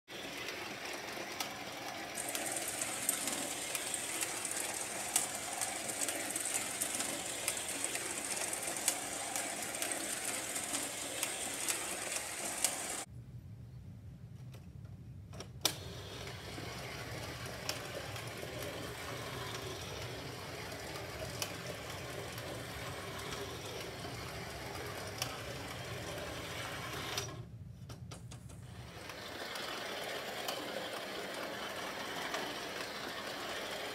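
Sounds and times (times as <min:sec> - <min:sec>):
toy train motor whirring: 0:00.1 - 0:13.1, 0:15.7 - 0:27.4, 0:28.7 - 0:33.9.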